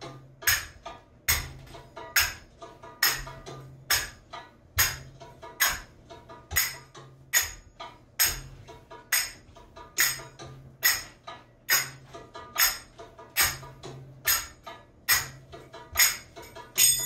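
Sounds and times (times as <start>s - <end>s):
finger cymbals clanging: 0.0s - 17.0s
recorded drum rhythm track: 0.0s - 17.0s.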